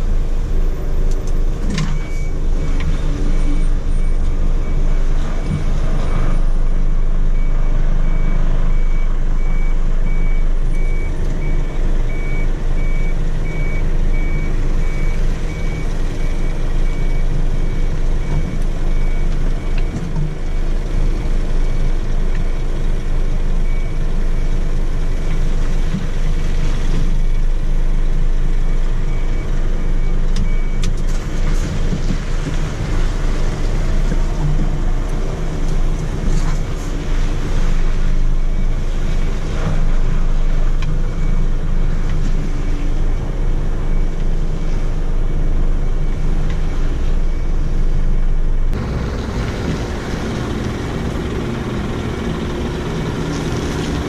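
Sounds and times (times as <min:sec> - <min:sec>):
truck engine running: 0:00.0 - 0:54.0
truck reversing alarm beeping: 0:00.0 - 0:54.0.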